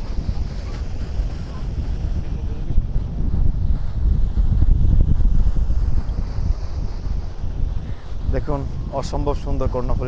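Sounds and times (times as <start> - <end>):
river waves hissing: 0.0 - 10.0
wind buffeting microphone: 0.0 - 10.0.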